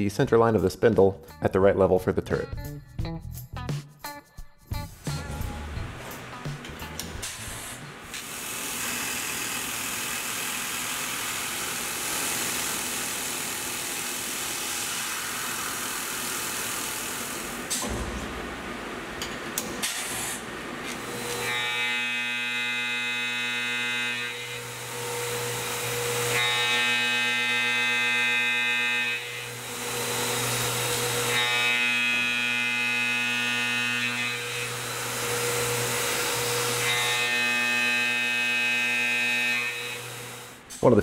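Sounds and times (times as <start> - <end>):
milling machine spindle hum: 5.9 - 40.7.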